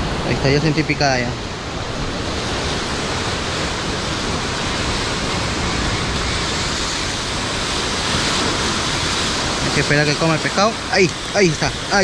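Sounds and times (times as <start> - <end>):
sea surf washing against rocks: 0.0 - 12.0.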